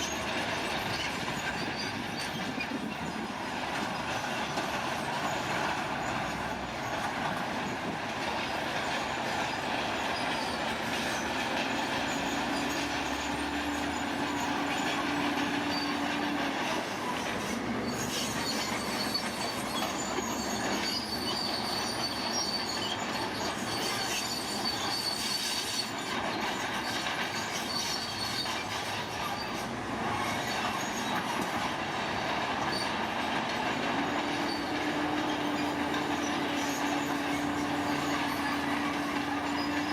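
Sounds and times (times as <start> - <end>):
heavy machinery engine running: 0.0 - 24.1, 26.2 - 39.9
high metallic squealing: 4.0 - 31.7, 32.5 - 39.9.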